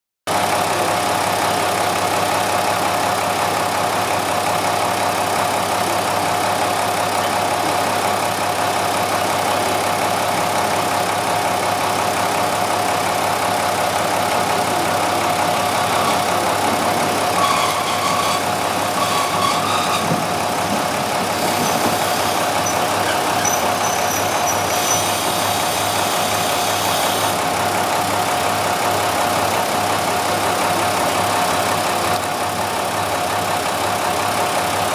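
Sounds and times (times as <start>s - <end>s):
diesel railcar engine idling: 0.3s - 34.9s.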